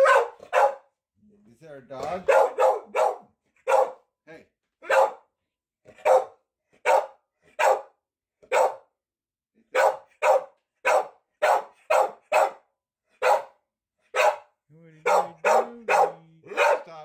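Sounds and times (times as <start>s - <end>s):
dog barking: 0.0s - 0.9s, 2.1s - 4.1s, 4.8s - 5.3s, 5.9s - 8.9s, 9.7s - 17.0s.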